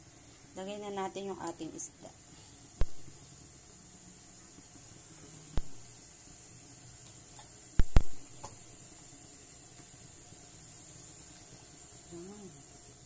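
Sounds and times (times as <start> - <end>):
pot hissing on stove: 0.0 - 13.0.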